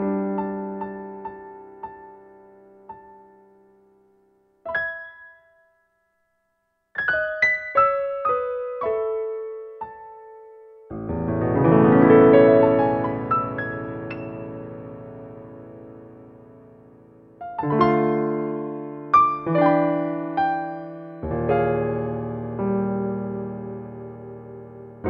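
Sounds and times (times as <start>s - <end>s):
solo piano: 0.0s - 25.0s.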